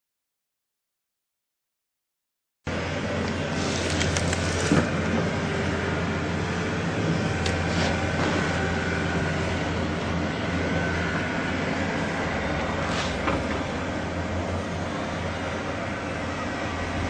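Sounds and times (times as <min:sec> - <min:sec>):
low rumbling hum: 0:02.7 - 0:17.0.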